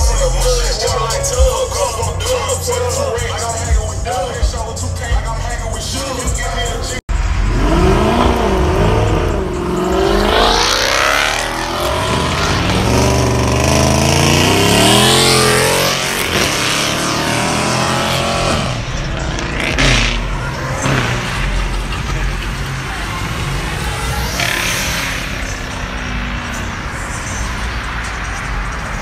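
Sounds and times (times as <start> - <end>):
cars revving hard: 0.0 - 29.0
tires squealing: 0.0 - 29.0.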